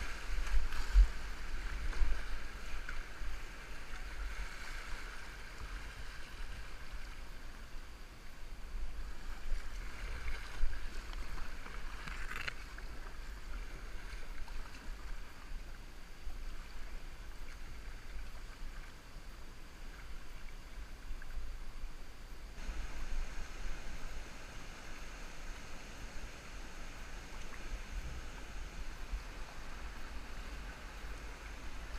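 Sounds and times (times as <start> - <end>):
muffled river water hiss: 0.0 - 31.9.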